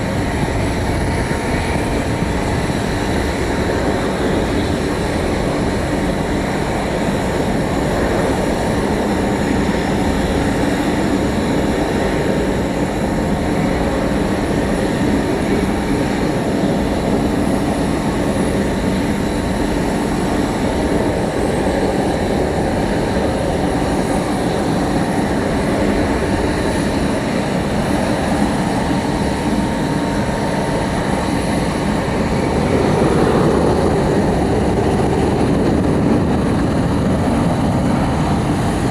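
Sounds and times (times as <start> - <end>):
aircraft engines droning: 0.0 - 38.9.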